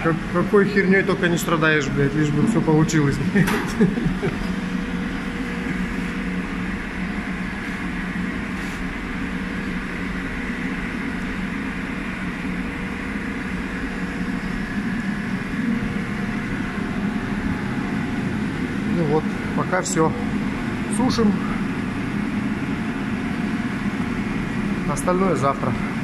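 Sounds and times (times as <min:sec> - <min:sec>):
heater fan blowing: 0:00.0 - 0:26.0.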